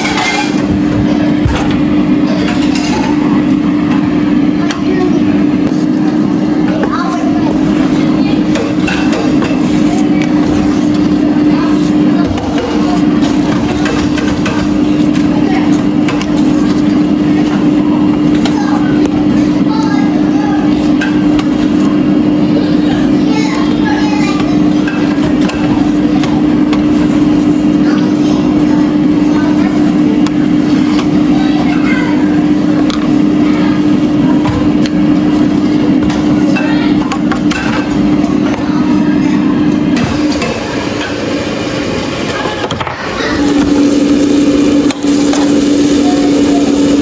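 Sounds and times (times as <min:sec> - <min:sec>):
kitchen appliance motor hum: 0:00.0 - 0:47.0.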